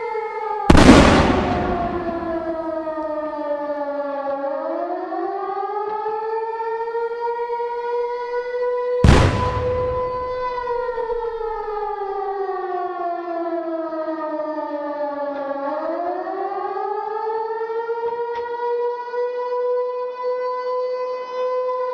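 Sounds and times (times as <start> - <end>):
air-raid siren: 0.0 - 21.9.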